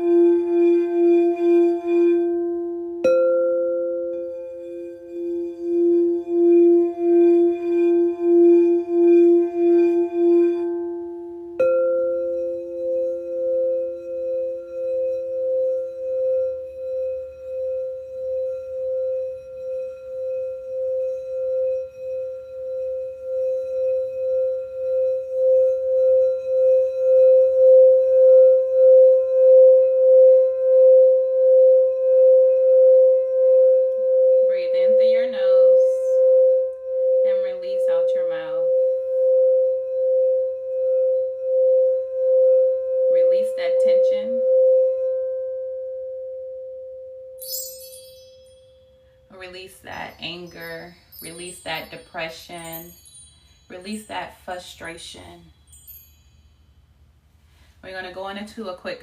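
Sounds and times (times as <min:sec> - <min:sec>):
high singing bowl struck and sung: 0:00.0 - 0:56.7
low singing bowl ringing: 0:00.0 - 0:57.0.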